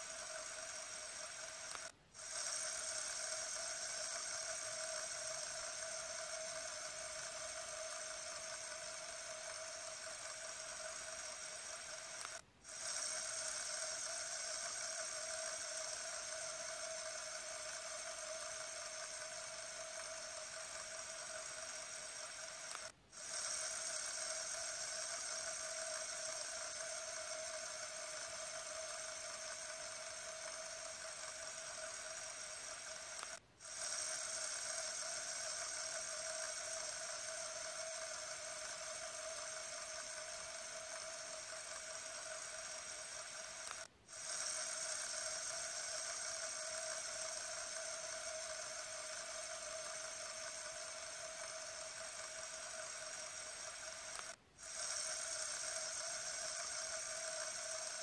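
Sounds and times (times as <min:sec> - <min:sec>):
fidget spinner whirring: 0:00.0 - 0:58.0.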